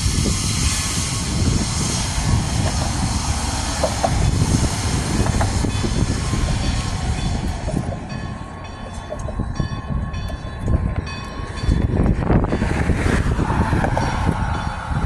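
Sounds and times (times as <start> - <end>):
steam locomotive rumbling: 0.0 - 15.0.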